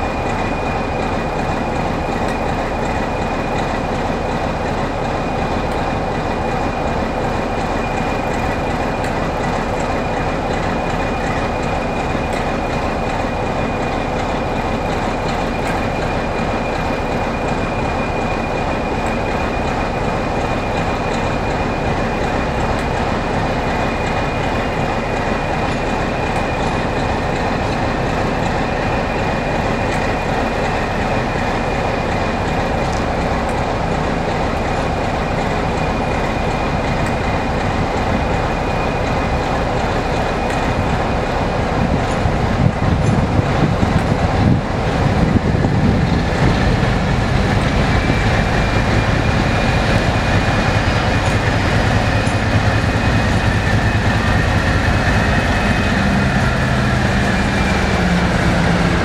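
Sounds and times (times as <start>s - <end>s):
diesel locomotive engine droning: 0.0s - 59.0s
high engine whine: 0.0s - 59.0s.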